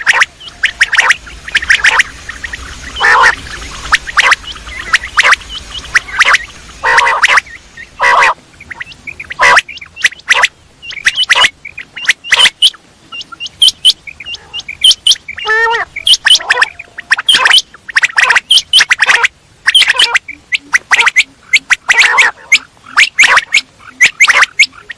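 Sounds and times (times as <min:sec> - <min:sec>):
quail chirping: 0:00.0 - 0:24.9
quail rattling call: 0:00.0 - 0:24.9.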